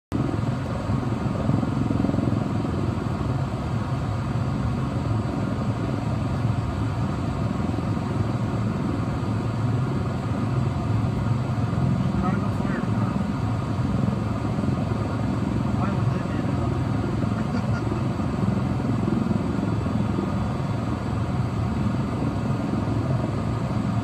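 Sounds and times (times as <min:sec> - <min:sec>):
helicopter hovering: 0:00.1 - 0:24.0.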